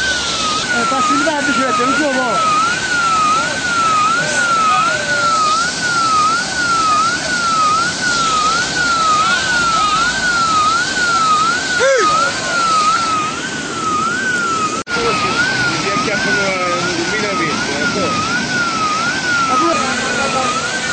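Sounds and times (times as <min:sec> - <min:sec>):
emergency siren wailing: 0:00.0 - 0:20.9
steady noisy background: 0:00.0 - 0:20.9.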